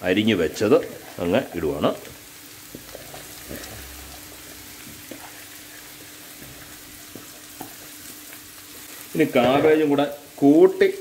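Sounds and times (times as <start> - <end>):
onions sizzling in pan: 0.0 - 11.0.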